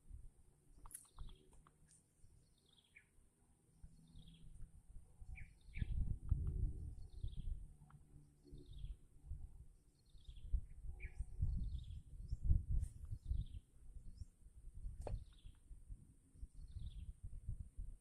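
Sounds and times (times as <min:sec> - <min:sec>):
bird chirping: 0:00.7 - 0:03.2, 0:03.8 - 0:14.4, 0:15.0 - 0:15.7, 0:16.4 - 0:17.3.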